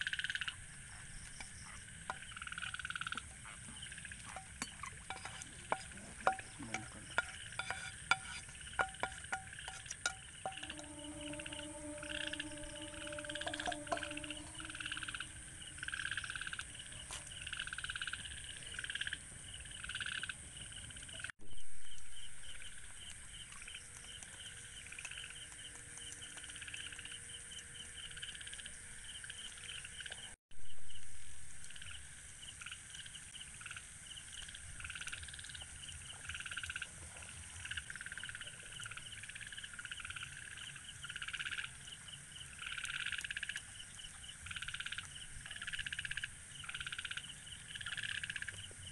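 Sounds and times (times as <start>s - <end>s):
frogs croaking: 0.0s - 48.9s
high insect drone: 0.0s - 48.9s.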